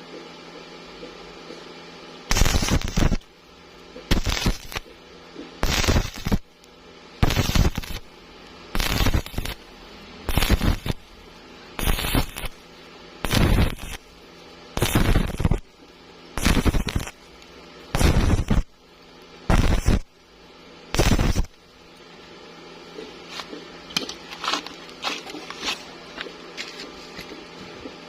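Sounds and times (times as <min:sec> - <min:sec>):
quiet steady hum: 0:00.0 - 0:28.0
welding arc crackling: 0:02.3 - 0:22.0, 0:22.9 - 0:26.4.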